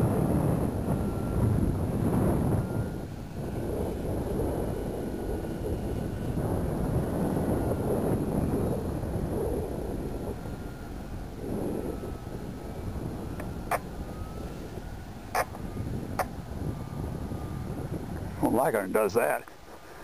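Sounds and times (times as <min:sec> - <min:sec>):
model airplane motor drone: 0:00.0 - 0:20.0
wind buffeting microphone: 0:00.0 - 0:20.0.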